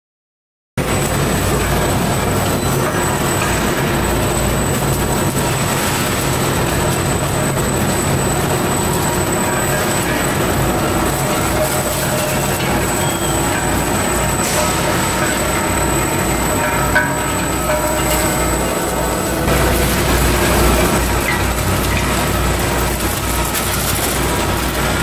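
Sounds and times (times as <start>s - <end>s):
high machine whine: 0.8s - 25.0s
packing machinery running: 0.8s - 25.0s.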